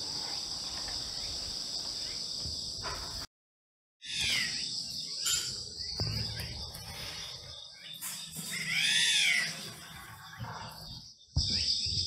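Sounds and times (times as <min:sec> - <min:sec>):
crickets chirring: 0:00.0 - 0:03.3, 0:04.1 - 0:12.0.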